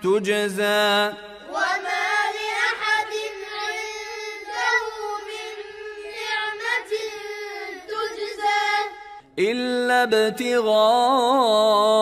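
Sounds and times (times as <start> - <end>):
high voice chanting recitation: 0.0 - 12.0.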